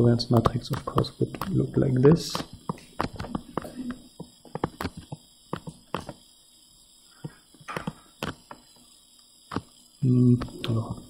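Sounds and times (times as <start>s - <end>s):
stylus tapping and scratching on screen: 0.2s - 6.3s, 7.2s - 8.9s, 9.5s - 11.0s.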